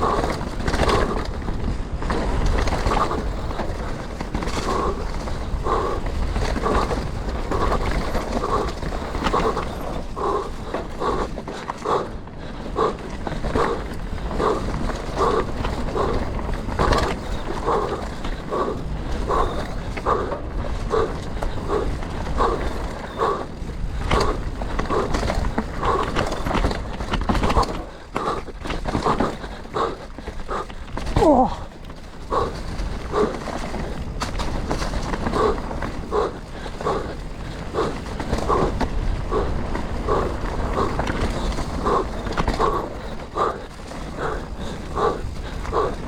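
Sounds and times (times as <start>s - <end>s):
person breathing hard: 0.0s - 46.0s
tyres rumbling on trail: 0.0s - 46.0s
wind: 0.0s - 46.0s.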